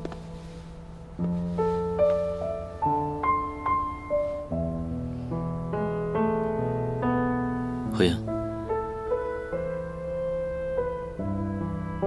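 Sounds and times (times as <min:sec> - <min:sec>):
slow solo piano: 0:00.0 - 0:12.0.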